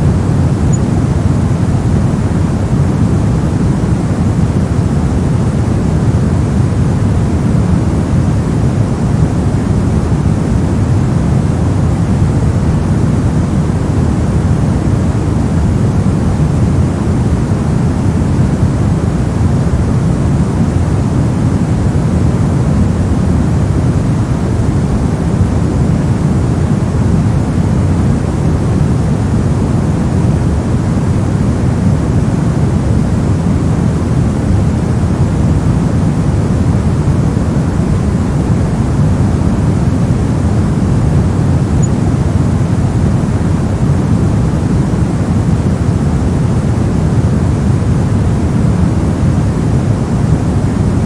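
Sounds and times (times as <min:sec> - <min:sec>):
white noise: 0:00.0 - 0:51.0.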